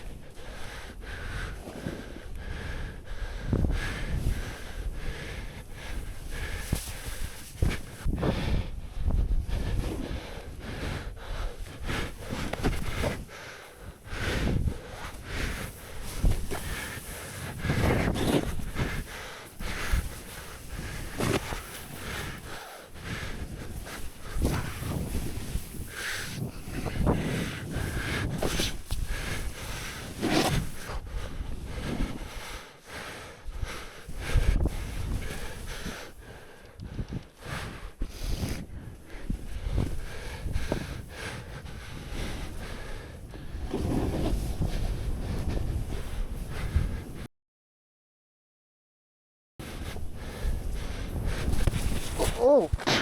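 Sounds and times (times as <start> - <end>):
wind buffeting microphone: 0.0 - 47.3, 49.6 - 53.0
snowboard sliding through powder snow: 0.6 - 2.0, 3.9 - 8.7, 11.6 - 33.2, 34.1 - 36.2, 37.7 - 47.3, 49.7 - 53.0.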